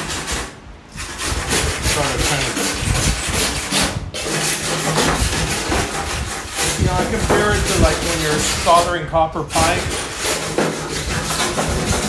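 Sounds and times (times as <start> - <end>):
brush scrubbing metal panel: 0.0 - 12.0.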